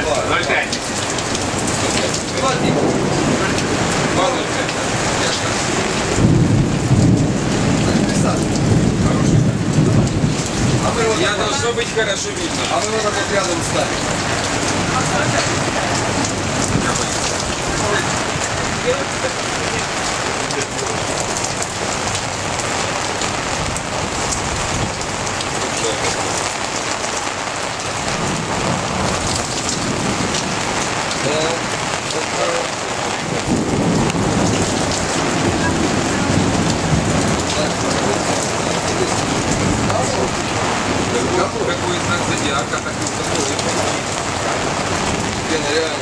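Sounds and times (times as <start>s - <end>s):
rain pouring: 0.0s - 46.0s
thunder rumbling: 0.0s - 46.0s.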